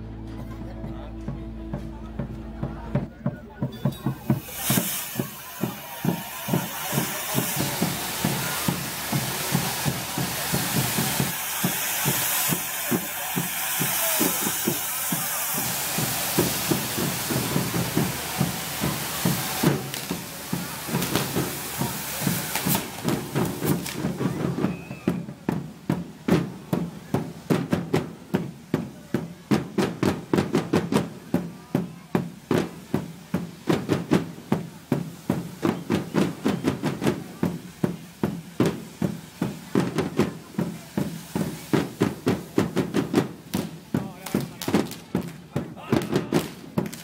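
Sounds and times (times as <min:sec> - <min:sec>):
steady drum beat: 0:00.1 - 0:47.0
sparkler fireworks hissing: 0:03.7 - 0:47.0.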